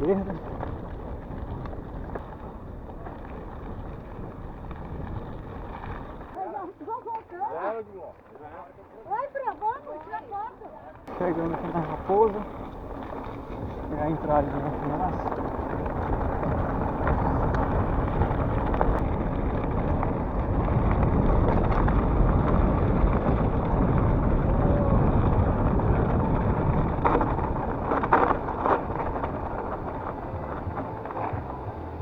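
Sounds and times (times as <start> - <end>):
wind rushing over microphone: 0.0 - 6.4, 11.1 - 32.0
rumble of bike ride: 0.0 - 7.1, 8.1 - 32.0.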